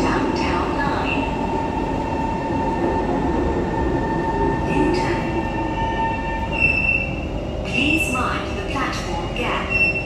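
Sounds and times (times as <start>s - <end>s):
high train whine: 0.0s - 10.0s
metro train rumbling: 0.0s - 10.0s.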